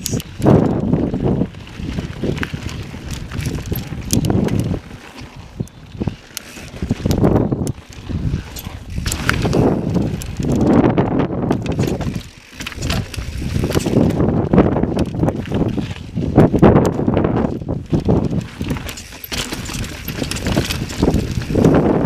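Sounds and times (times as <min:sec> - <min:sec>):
bike clattering over stones: 0:00.0 - 0:22.0
bike tyres rolling on rock: 0:00.0 - 0:22.0
wind buffeting microphone: 0:00.0 - 0:22.0.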